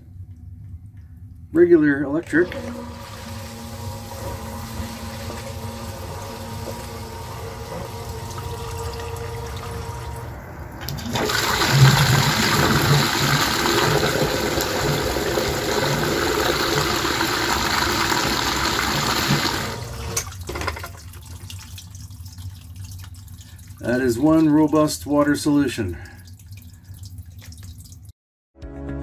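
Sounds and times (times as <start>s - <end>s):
sump pump humming: 0.0s - 28.1s
water gushing: 2.3s - 28.1s.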